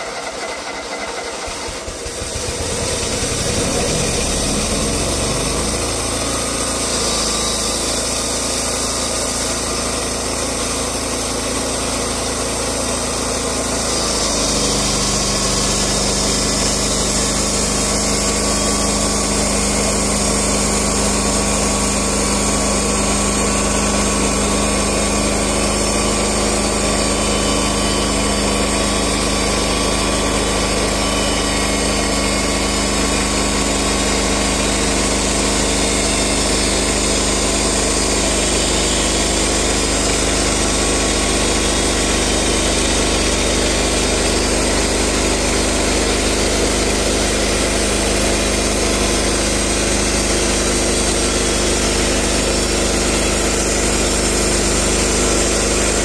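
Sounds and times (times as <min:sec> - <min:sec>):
band saw blade sawing log: 0:00.0 - 0:56.0
gasoline engine running: 0:00.0 - 0:56.0.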